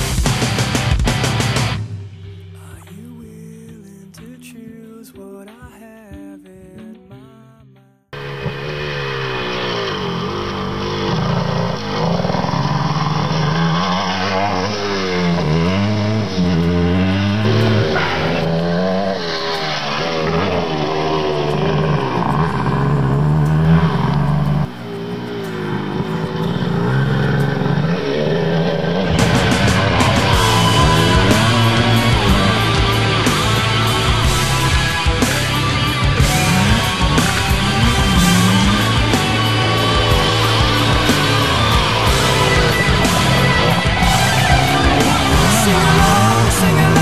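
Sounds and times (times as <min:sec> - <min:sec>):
motorbike engine revving: 0:08.2 - 0:47.0.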